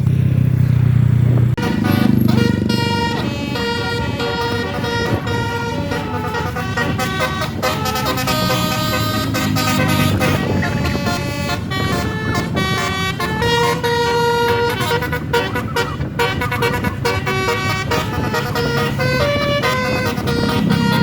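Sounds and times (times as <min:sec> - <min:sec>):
bus engine and road noise: 0:00.0 - 0:21.0
multi-note air horn melody: 0:01.6 - 0:21.0.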